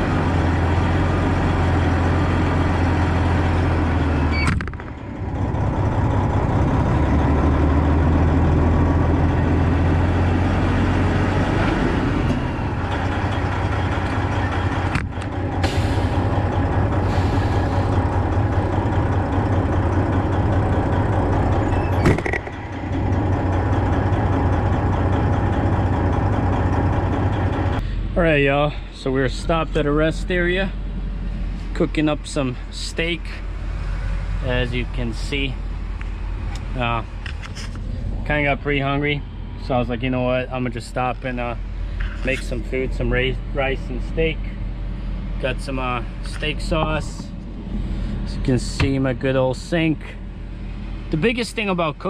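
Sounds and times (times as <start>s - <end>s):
road noise: 0.0s - 52.0s
truck engine hum: 0.0s - 52.0s.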